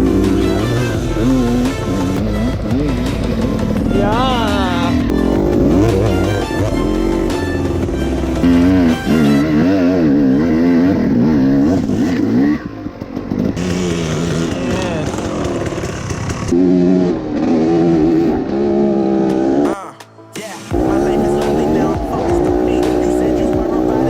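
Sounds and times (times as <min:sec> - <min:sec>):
dirt bike engines revving: 0:00.0 - 0:19.8, 0:20.7 - 0:24.0.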